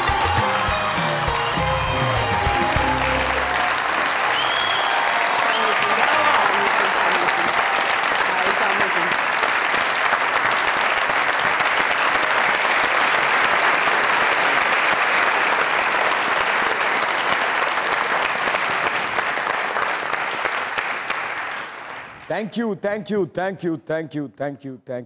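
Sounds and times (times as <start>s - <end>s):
audience applauding: 0.0s - 22.4s.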